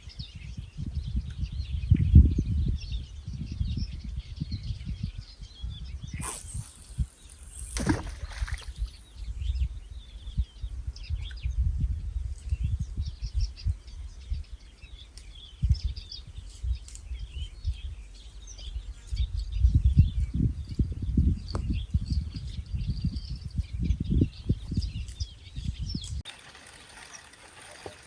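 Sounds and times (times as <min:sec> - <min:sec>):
wind rumble on microphone: 0:00.0 - 0:26.3
small birds chirping: 0:00.0 - 0:28.0.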